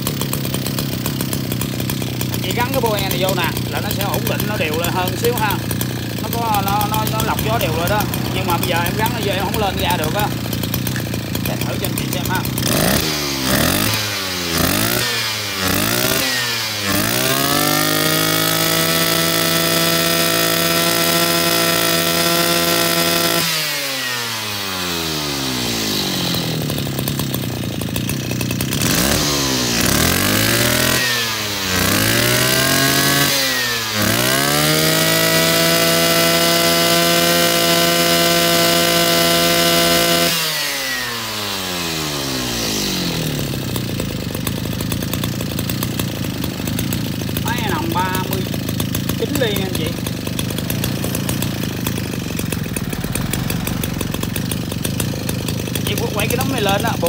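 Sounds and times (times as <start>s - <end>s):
brushcutter engine revving: 0.0s - 57.0s.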